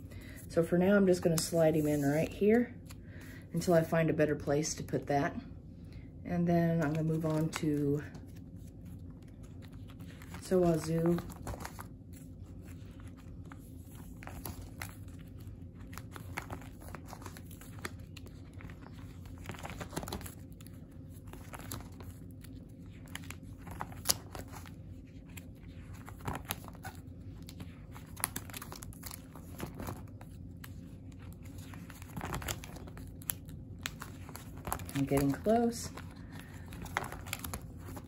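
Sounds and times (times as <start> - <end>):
plastic sleeves crinkling: 6.8 - 38.0.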